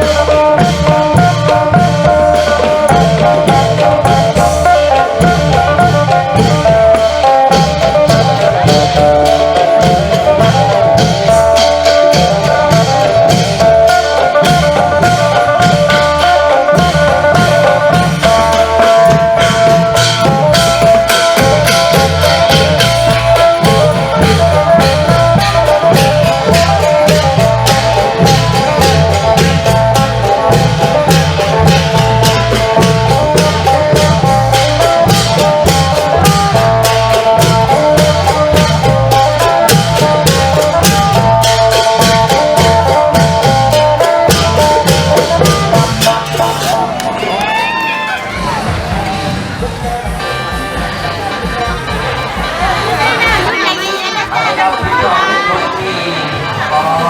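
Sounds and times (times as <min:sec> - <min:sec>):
long-drum band playing: 0:00.0 - 0:57.0
lute picking a melody: 0:00.0 - 0:57.0.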